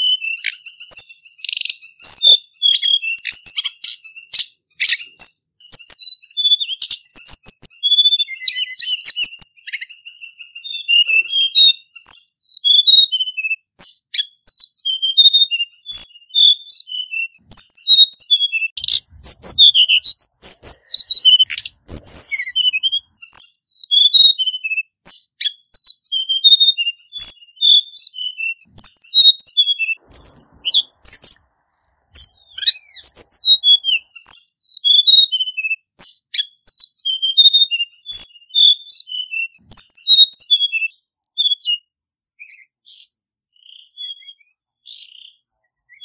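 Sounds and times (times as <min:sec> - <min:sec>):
flycatcher singing whistled notes: 0:00.0 - 0:31.4, 0:32.0 - 0:46.0.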